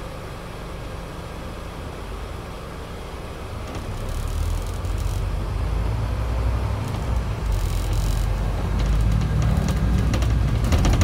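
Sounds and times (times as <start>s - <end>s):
bus diesel engine accelerating: 0.0s - 11.0s.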